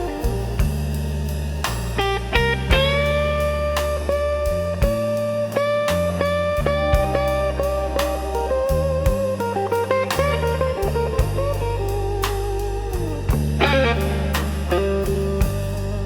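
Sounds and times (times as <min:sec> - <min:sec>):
steady drum beat: 0:00.0 - 0:16.0
walking bass line: 0:00.0 - 0:16.0
electric guitar lead: 0:02.0 - 0:16.0.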